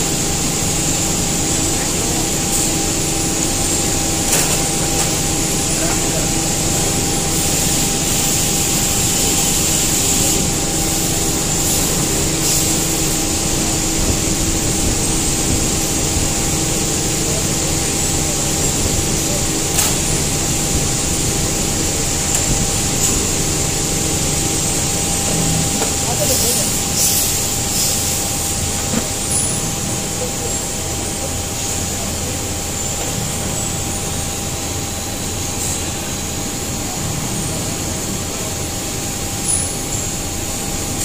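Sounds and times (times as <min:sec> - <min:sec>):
machinery running with hum and hiss: 0:00.0 - 0:41.0.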